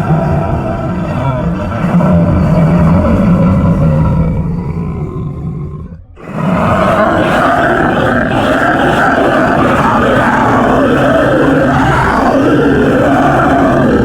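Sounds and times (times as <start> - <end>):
deep monster growl: 0.0 - 14.0.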